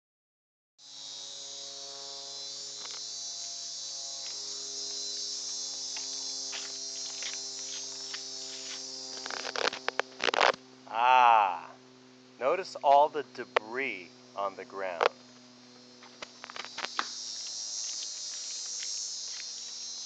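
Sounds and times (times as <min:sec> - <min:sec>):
insects chirring: 0:00.8 - 0:20.0.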